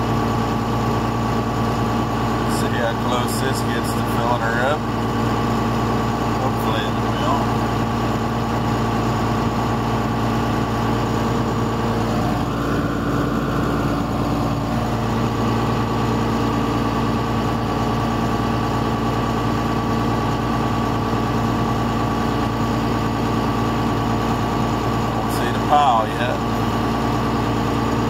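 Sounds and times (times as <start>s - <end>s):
auger high whine: 0.0s - 18.4s, 21.9s - 28.0s
tractor engine droning: 0.0s - 28.0s.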